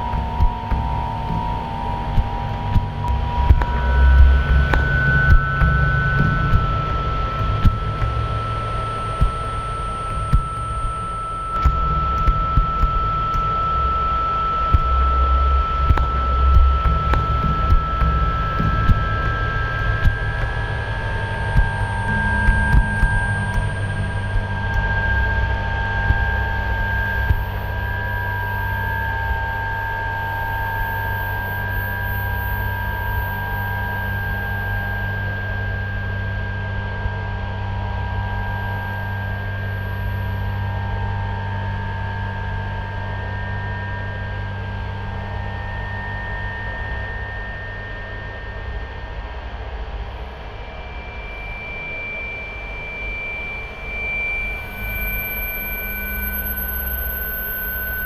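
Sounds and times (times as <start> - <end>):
electronic drone: 0.0 - 58.0.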